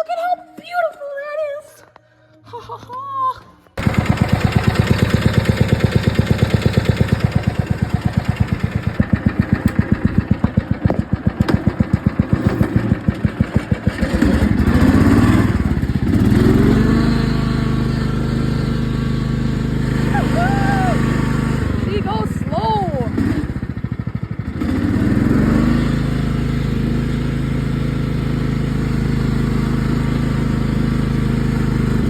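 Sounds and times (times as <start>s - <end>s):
lawn mower engine putting: 3.8s - 32.0s.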